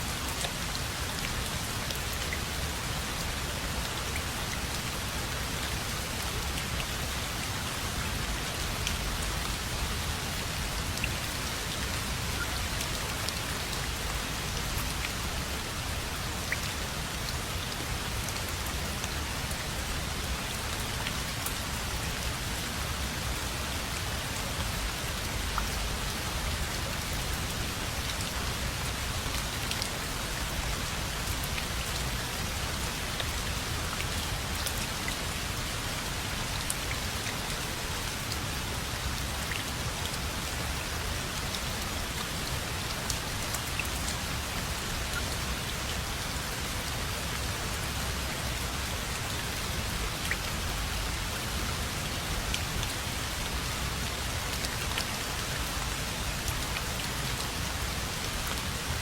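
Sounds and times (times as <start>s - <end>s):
rain pattering on a surface: 0.0s - 59.0s.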